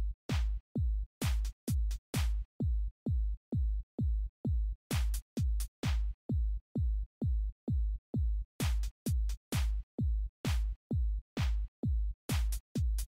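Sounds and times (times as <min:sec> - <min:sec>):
electronic music with kick drum: 0:00.0 - 0:13.0.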